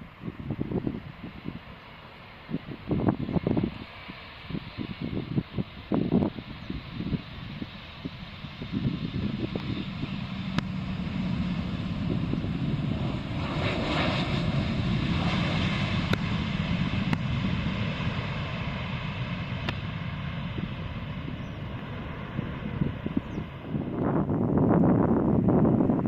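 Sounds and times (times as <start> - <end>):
airliner passing by: 0.0 - 26.0.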